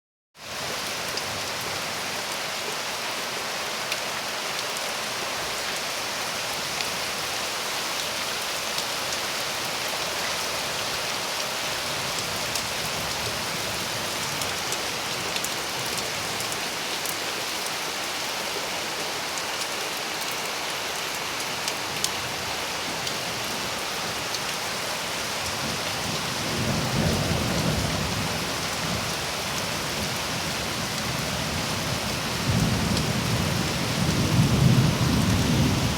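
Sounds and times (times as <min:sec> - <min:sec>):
steady rain falling: 0:00.4 - 0:35.9.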